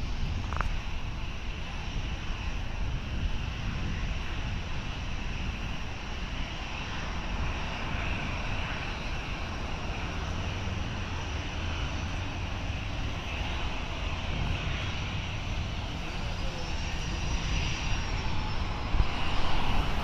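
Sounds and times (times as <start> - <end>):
jet engines roaring on takeoff: 0.0 - 20.0.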